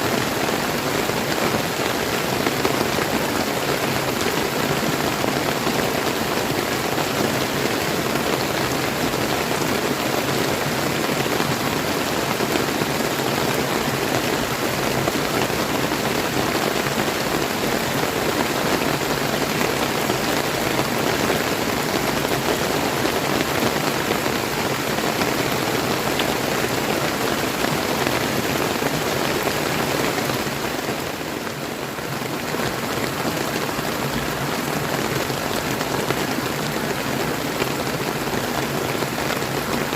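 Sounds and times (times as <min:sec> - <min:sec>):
flowing river: 0:00.0 - 0:39.9
steady rain falling: 0:00.0 - 0:39.9.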